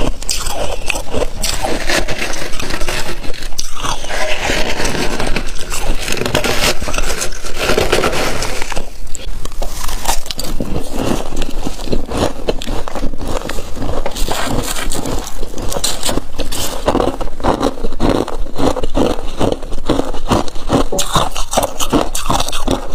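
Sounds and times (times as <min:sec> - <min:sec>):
frost being scraped and crunched: 0:00.0 - 0:22.9.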